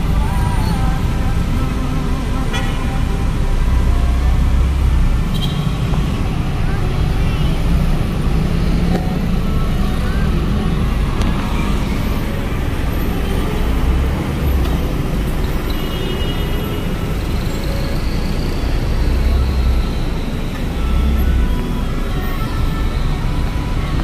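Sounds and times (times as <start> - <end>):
car engines idling in traffic: 0.0 - 24.0.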